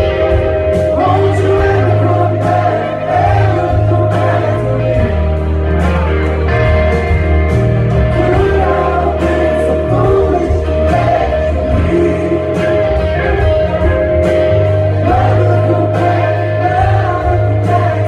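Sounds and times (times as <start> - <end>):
person singing: 0.0 - 6.0, 8.1 - 14.3, 14.9 - 18.0
live rock band playing: 0.0 - 18.0.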